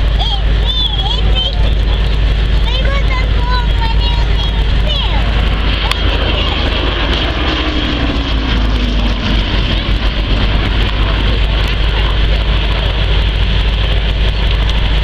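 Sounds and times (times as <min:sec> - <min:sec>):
aircraft engine flying past: 0:00.0 - 0:15.0
low rumble: 0:00.0 - 0:15.0.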